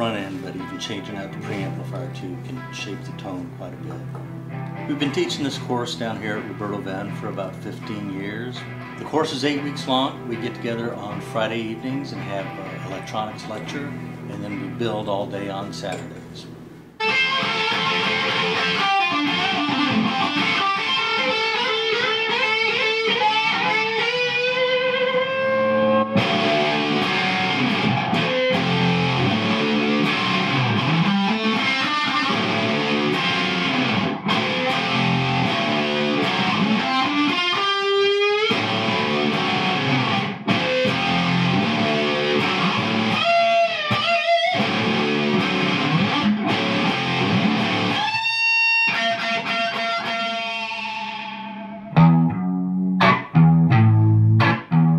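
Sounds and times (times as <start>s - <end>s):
electric guitar playing: 0.0s - 54.9s.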